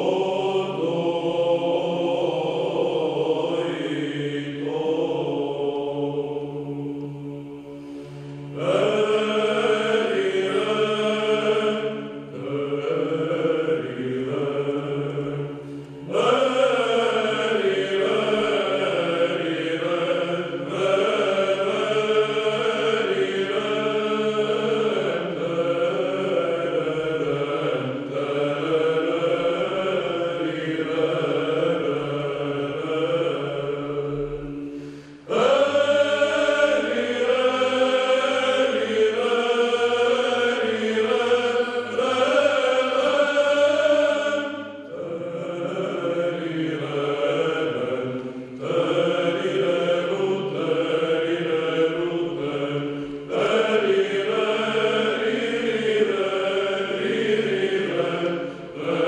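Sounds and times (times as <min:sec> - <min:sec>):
male choir chanting: 0:00.0 - 0:59.0.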